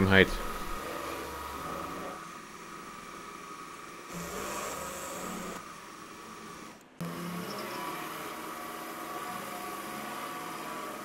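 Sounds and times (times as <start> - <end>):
machine tool humming with whine: 0.0 - 11.0.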